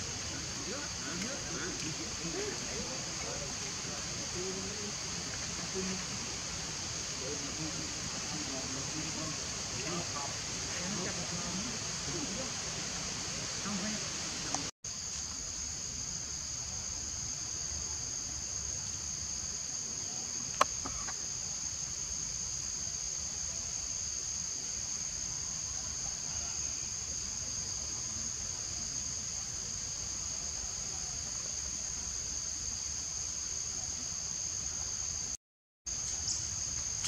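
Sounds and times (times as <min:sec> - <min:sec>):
faint outdoor hiss: 0:00.0 - 0:37.0
insects droning: 0:00.0 - 0:37.0.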